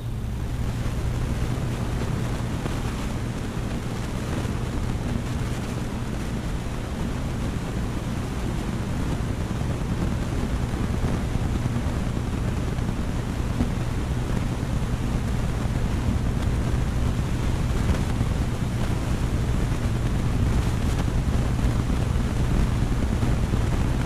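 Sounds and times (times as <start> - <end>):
aquarium filter hum: 0.0 - 24.0.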